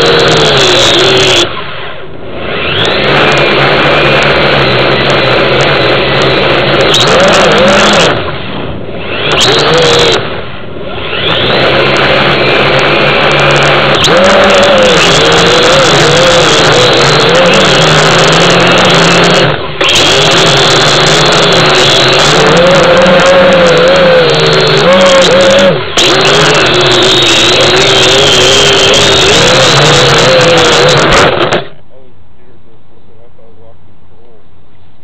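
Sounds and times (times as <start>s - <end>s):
quadcopter propellers buzzing: 0.0s - 31.8s.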